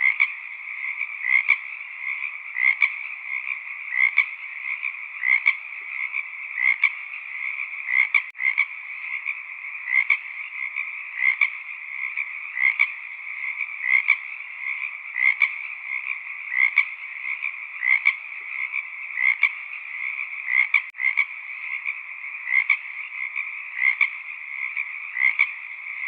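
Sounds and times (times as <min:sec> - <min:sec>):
frog chorus: 0:00.0 - 0:26.0.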